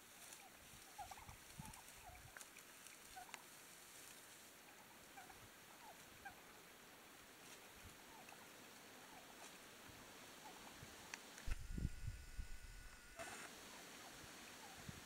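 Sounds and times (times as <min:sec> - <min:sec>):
turkeys calling softly: 0:00.1 - 0:11.2, 0:12.9 - 0:14.9.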